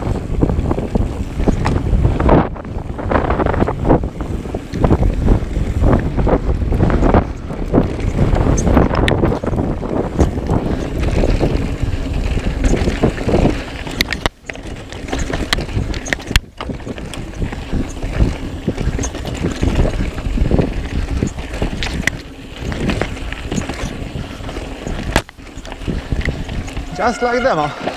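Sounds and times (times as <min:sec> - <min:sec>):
bike clicks and rattles: 0:00.0 - 0:27.9
mountain bike rolling on rough trail: 0:00.0 - 0:27.9
wind buffeting microphone: 0:00.0 - 0:27.9.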